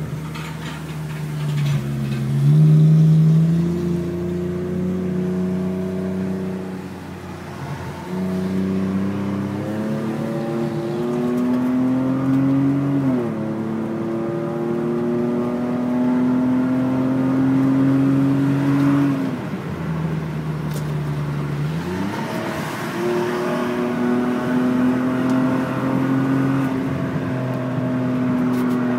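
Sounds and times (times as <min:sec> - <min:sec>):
car engine accelerating through gears: 0:01.6 - 0:19.6, 0:20.4 - 0:28.9.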